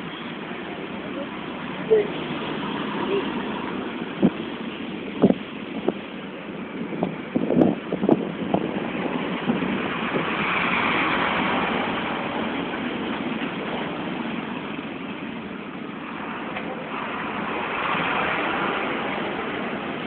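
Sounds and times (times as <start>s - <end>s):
road and wind noise: 0.0s - 20.0s
vehicle engine running: 0.0s - 20.0s.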